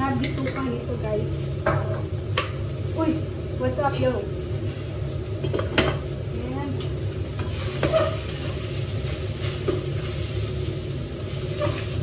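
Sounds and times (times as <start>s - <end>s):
steady low hum: 0.0s - 11.6s
vegetables sizzling in a pot: 0.0s - 12.0s.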